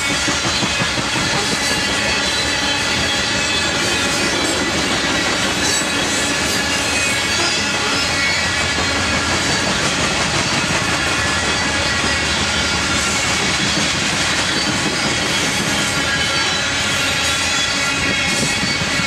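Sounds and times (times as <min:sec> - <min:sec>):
train wheels rumbling on rail: 0:00.0 - 0:19.0
high-pitched whining tones: 0:00.1 - 0:19.0.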